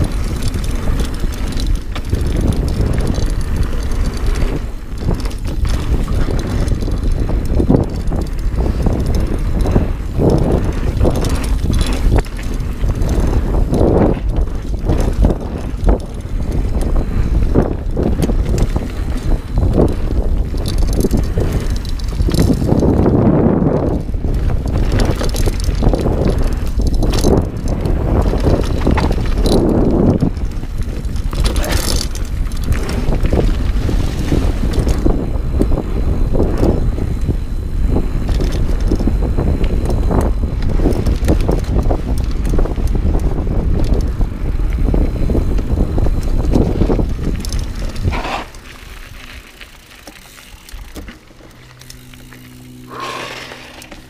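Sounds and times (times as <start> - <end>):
bike rattling and knocking: 0.0 - 54.0
bike tyres on dirt: 0.0 - 54.0
wind buffeting microphone: 0.0 - 54.0.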